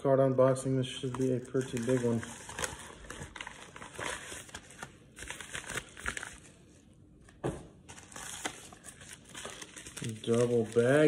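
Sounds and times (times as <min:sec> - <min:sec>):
padded envelopes crinkling: 0:01.0 - 0:06.8, 0:07.9 - 0:11.0.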